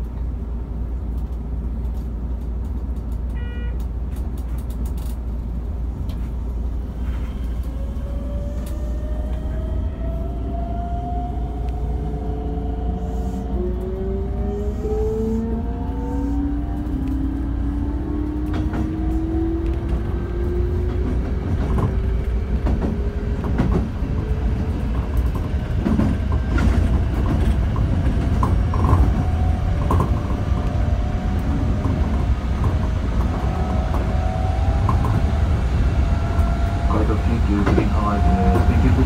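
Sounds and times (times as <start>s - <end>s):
train inverter whine: 0.0s - 39.0s
train running rumble: 0.0s - 39.0s.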